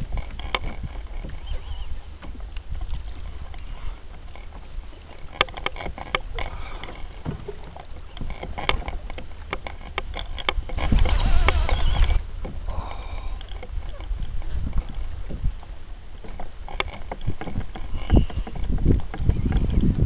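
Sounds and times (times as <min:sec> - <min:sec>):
water lapping against plastic hull: 0:00.0 - 0:20.0
wind rumble on microphone: 0:00.0 - 0:20.0.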